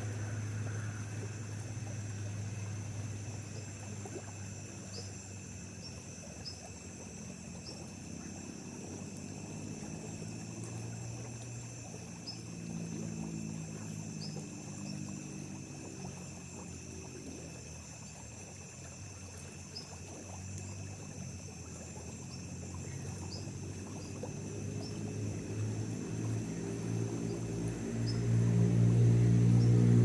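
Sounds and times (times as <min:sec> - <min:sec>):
insect chirps: 0:00.0 - 0:30.0
low steady hum: 0:00.0 - 0:30.0
night insects chorus: 0:00.0 - 0:30.0.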